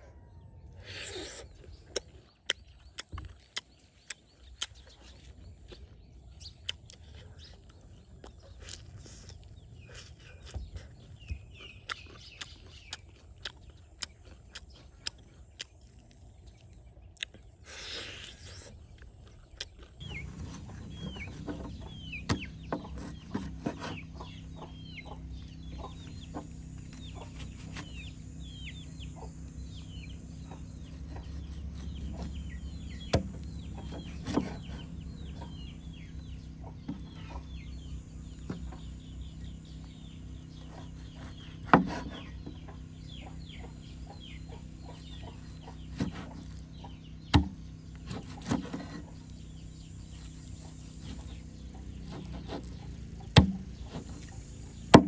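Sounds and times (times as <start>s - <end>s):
chickens cheeping: 0.0s - 55.0s.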